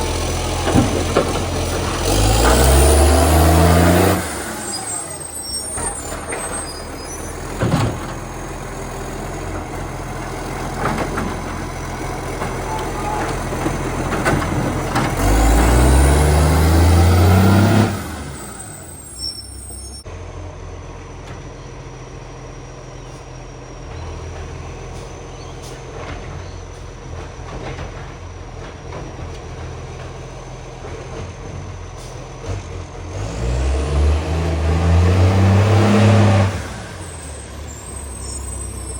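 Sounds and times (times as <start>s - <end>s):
diesel truck engine revving and idling: 0.0s - 38.9s.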